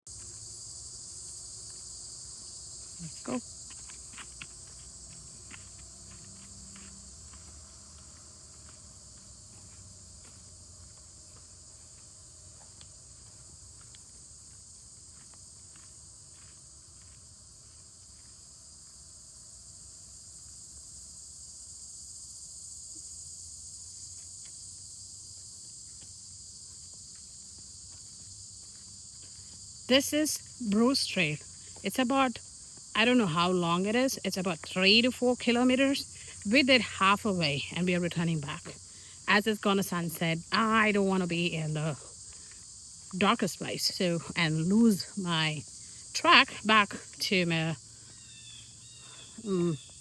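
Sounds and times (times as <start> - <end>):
crickets chirping: 0.0 - 50.0
footsteps on trail: 0.1 - 19.0, 24.1 - 45.8.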